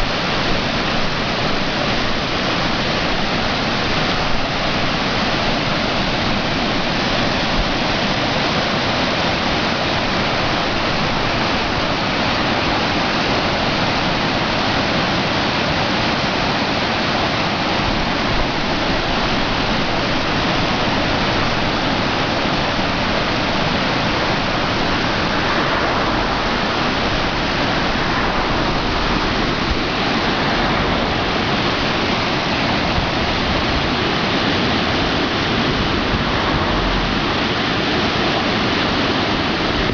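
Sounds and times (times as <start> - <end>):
river water rushing over weir: 0.0 - 39.9.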